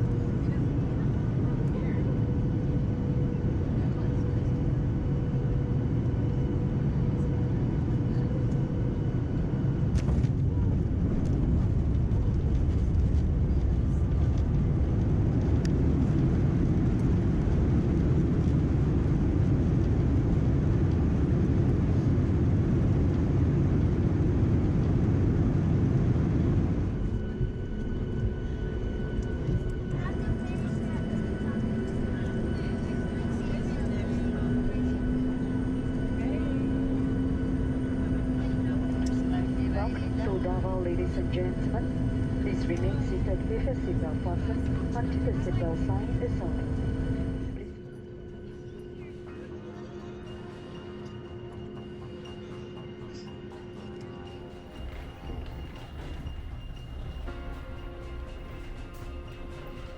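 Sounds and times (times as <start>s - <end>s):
aircraft cabin engine roar: 0.0s - 59.9s.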